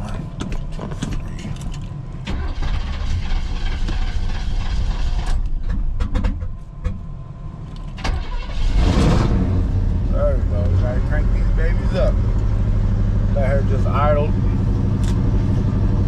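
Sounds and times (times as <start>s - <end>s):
car engine cranking and sputtering: 0.0s - 16.0s.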